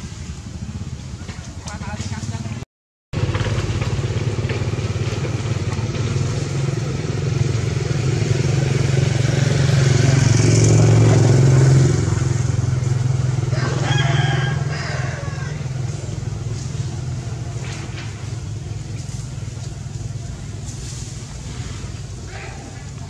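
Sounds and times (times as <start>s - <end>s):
motor engine droning: 3.2s - 23.0s.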